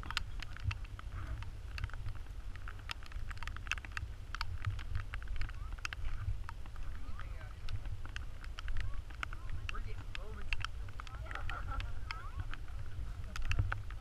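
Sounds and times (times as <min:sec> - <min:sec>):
sharp ticks and taps: 0:00.0 - 0:14.0
wind rumbling on microphone: 0:00.0 - 0:14.0.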